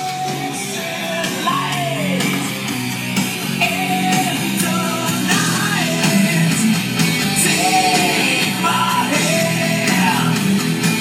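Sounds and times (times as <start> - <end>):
person singing: 0.0 - 2.6, 3.5 - 11.0
steady instrumental notes: 0.0 - 11.0.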